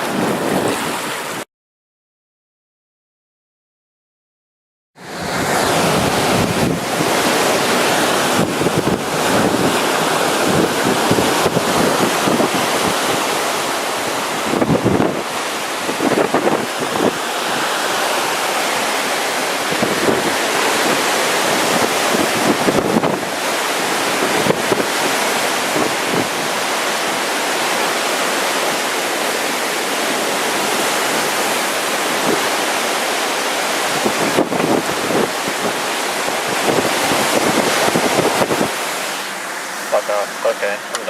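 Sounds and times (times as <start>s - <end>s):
hurricane wind: 0.0s - 1.4s, 5.0s - 41.0s
surf: 0.0s - 1.4s, 5.0s - 41.0s.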